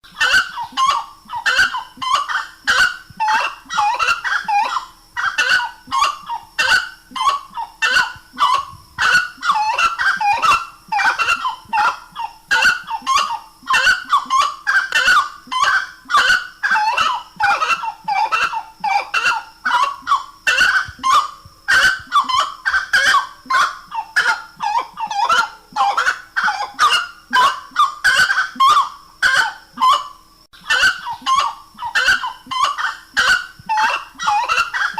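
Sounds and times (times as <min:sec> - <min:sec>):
bird honking calls: 0:00.1 - 0:34.9.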